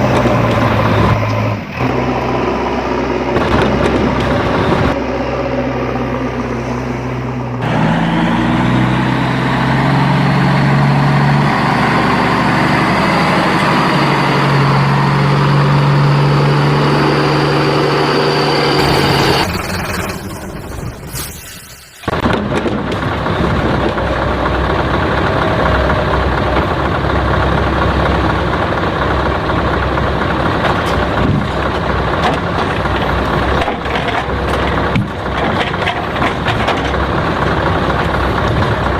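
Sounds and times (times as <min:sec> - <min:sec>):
truck engine running: 0:00.0 - 0:21.2, 0:22.0 - 0:38.9.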